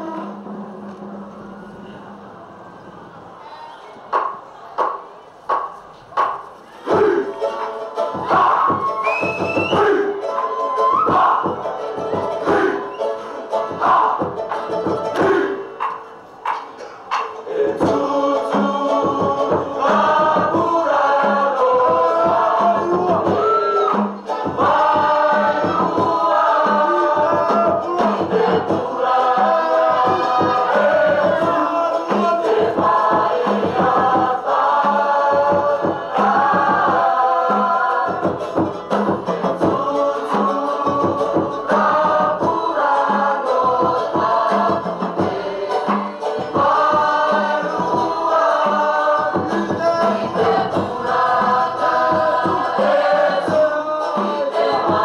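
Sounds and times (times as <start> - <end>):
choir singing in chorus: 0.0 - 3.0, 6.8 - 16.0, 17.1 - 55.0
steady drum beat: 8.1 - 10.0, 10.9 - 12.8, 13.7 - 55.0.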